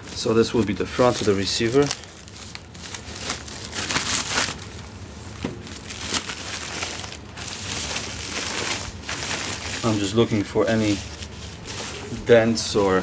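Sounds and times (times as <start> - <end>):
packaging rustling and crinkling: 0.0 - 12.9.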